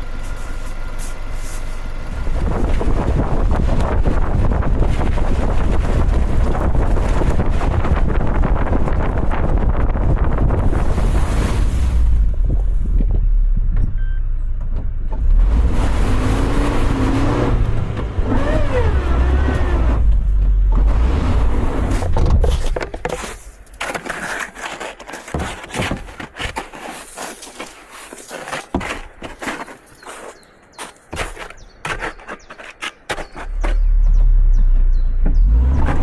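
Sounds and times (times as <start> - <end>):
vehicle rumble: 0.0 - 36.0.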